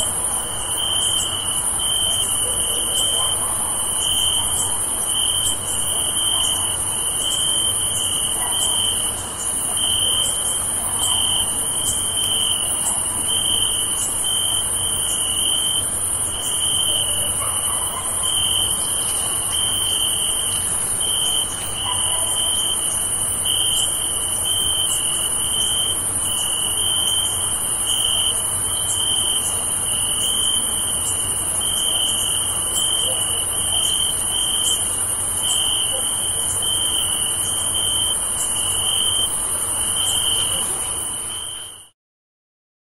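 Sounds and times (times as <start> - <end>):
crickets chirping: 0.0 - 41.9
high-pitched insect hiss: 3.8 - 41.9.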